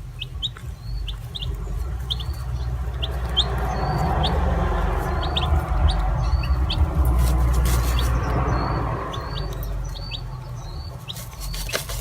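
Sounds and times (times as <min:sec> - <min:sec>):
low rumble: 0:00.0 - 0:11.0
baby chicks peeping: 0:00.0 - 0:12.0.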